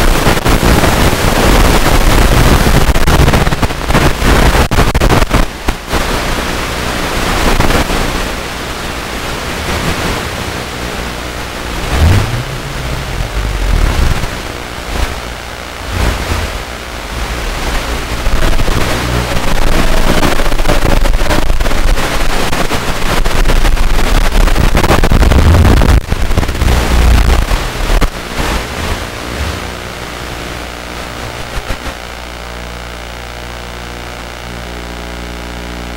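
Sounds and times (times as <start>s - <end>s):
buzzing hum: 0.0s - 35.9s
radio static hiss: 0.0s - 35.9s.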